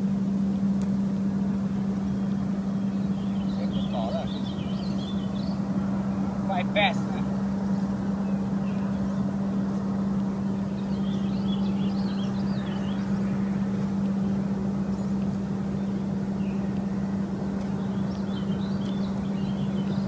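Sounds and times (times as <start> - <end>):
constant rumbling: 0.0 - 20.0
low mechanical hum: 0.0 - 20.0.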